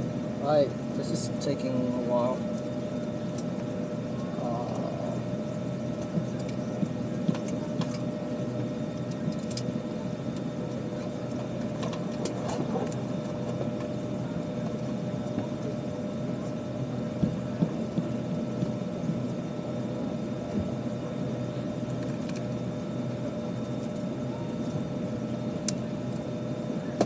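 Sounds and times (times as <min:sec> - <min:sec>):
aircraft cabin hum: 0:02.4 - 0:27.0.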